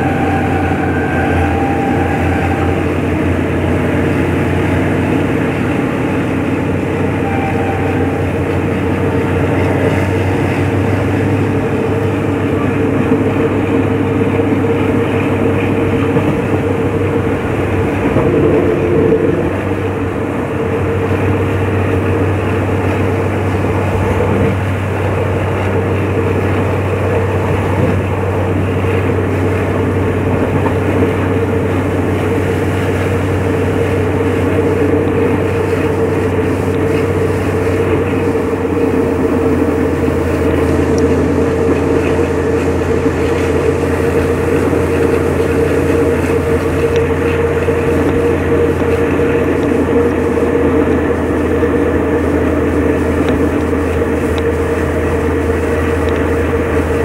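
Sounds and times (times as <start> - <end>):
locomotive diesel engine running: 0.0 - 57.0
train wheel and track noise: 0.0 - 57.0.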